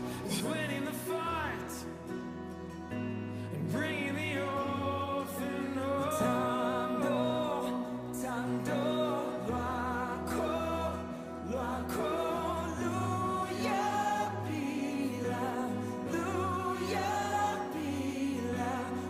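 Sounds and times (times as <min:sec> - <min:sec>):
people singing: 0:00.0 - 0:01.9, 0:03.5 - 0:19.0.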